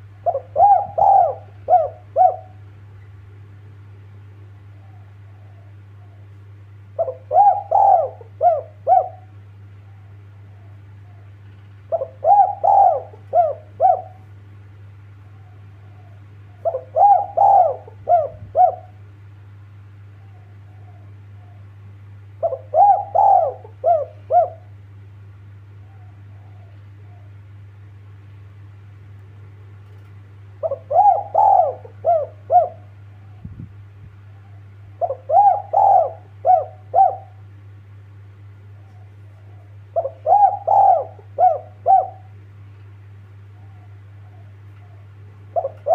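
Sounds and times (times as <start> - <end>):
dove cooing: 0.0 - 2.9, 4.5 - 14.4, 15.2 - 19.2, 19.9 - 24.9, 25.7 - 27.6, 30.6 - 33.6, 34.2 - 37.5, 38.4 - 42.6, 43.4 - 45.9
steady low hum: 0.0 - 45.9.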